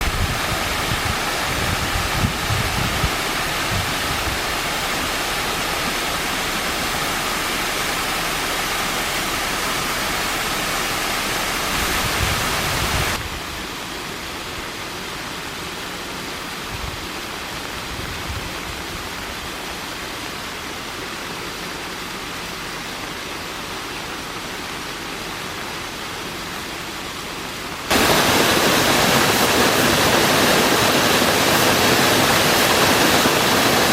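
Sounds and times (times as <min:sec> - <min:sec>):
waterfall rushing: 0:00.0 - 0:17.9, 0:18.6 - 0:33.9.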